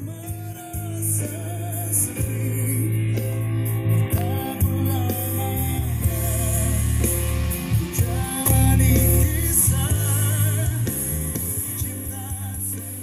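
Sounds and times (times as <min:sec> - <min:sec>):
man singing pop song with band: 0:00.0 - 0:13.0.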